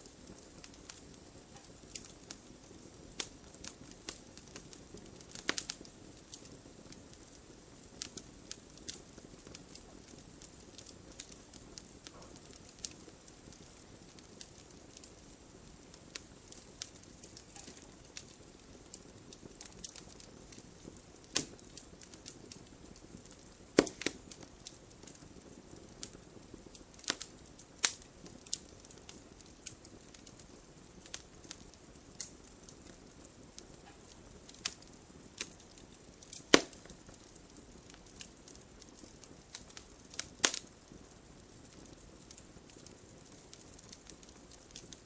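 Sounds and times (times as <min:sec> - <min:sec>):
faint steady hiss: 0:00.0 - 0:45.0
wood fire crackling: 0:00.0 - 0:45.0.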